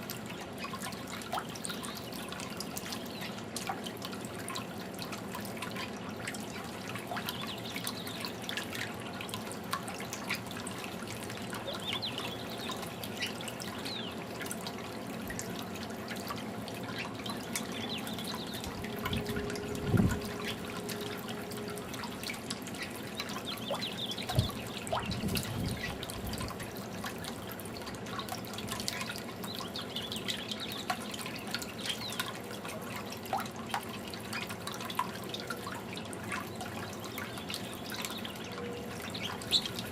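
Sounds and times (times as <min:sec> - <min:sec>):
fountain water trickling: 0:00.0 - 0:39.9.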